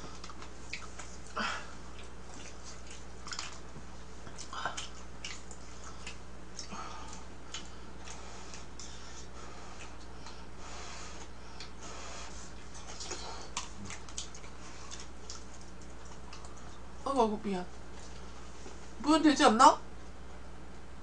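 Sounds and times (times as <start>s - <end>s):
eating with utensils: 0.0s - 16.9s
low electrical hum: 0.0s - 21.0s.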